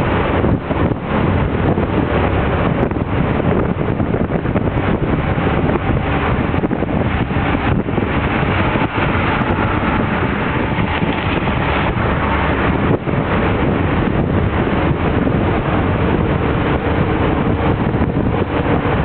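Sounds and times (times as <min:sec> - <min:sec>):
vehicle engine and tyre noise: 0:00.0 - 0:19.0
wind buffeting microphone: 0:00.0 - 0:19.0.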